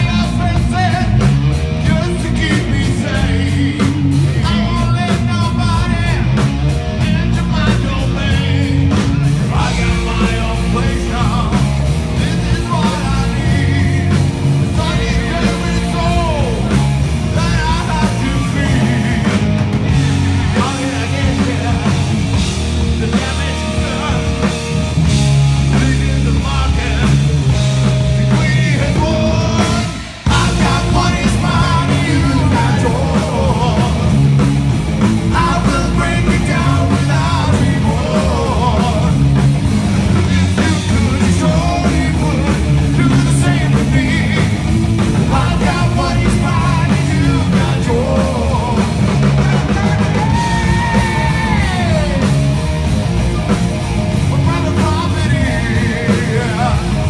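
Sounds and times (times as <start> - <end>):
man singing: 0.0 - 34.4, 35.2 - 39.4, 40.1 - 52.6, 54.2 - 57.0
live rock band: 0.0 - 57.0.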